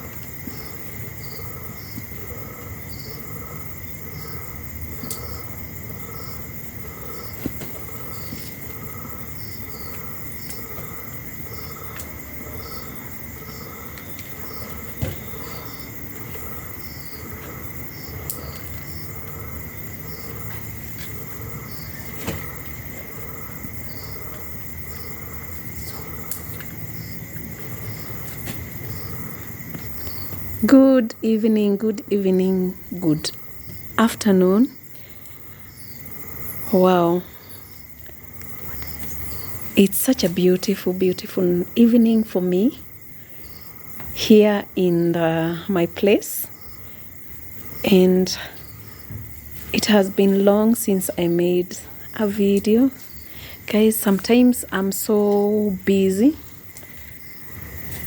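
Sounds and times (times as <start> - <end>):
crickets trilling: 0.0 - 58.0
insect pulsing call: 0.0 - 58.0.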